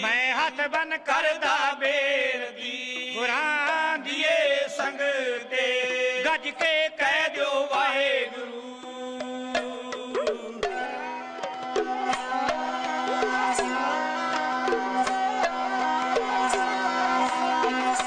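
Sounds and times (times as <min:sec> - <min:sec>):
wavering chant-like vocal melody: 0:00.0 - 0:18.0.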